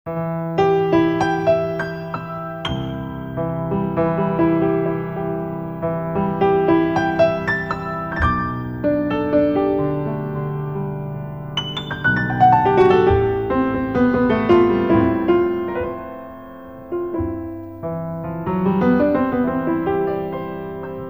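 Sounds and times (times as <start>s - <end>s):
gentle solo piano melody: 0.1s - 21.0s.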